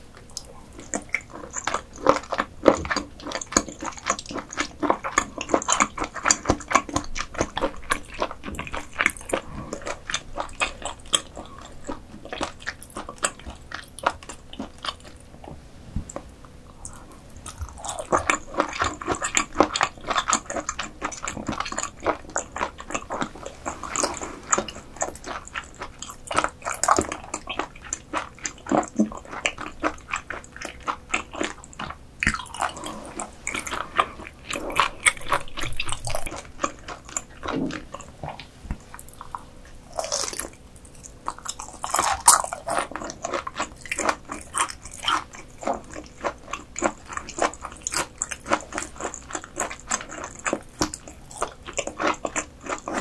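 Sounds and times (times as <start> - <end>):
biting and wet chewing: 0.0 - 53.0
rapid mouth clicks and squelches: 0.1 - 15.3, 16.1 - 53.0.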